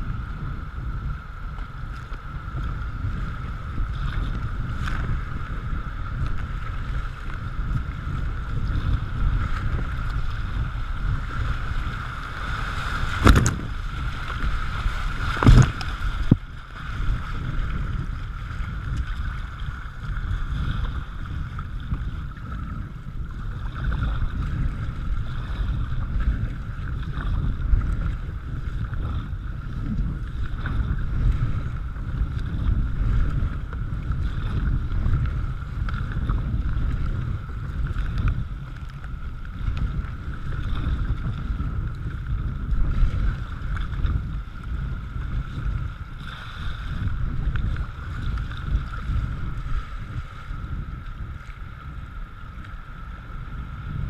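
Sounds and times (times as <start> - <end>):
water rushing around kayak: 0.0 - 54.0
wind on microphone: 0.0 - 54.0.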